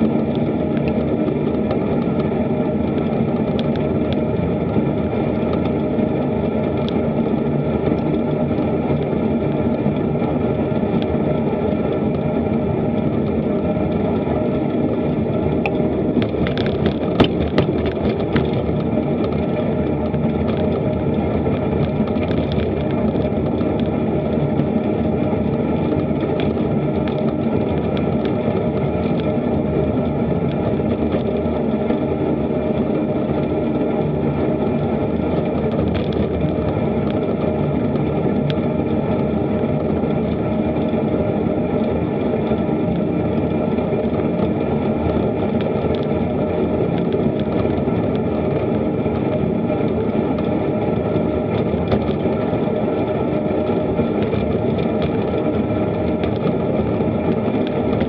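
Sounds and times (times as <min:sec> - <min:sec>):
bicycle tyre and wind rumble: 0:00.0 - 0:58.0.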